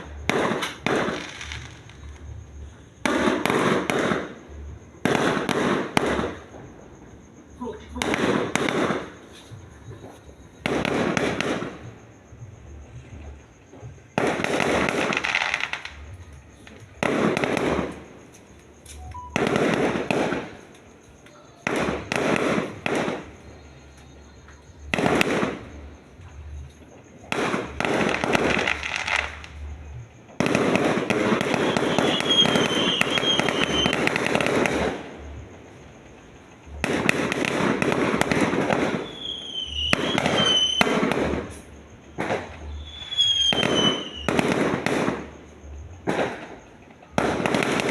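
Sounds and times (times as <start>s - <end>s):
fireworks banging: 0.0s - 47.9s.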